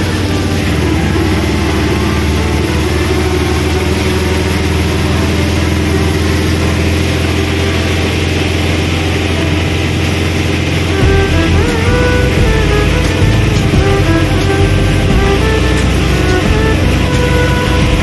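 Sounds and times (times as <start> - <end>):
rain hissing: 0.0 - 18.0
small engine running: 0.0 - 18.0
tyres on wet road: 0.0 - 18.0.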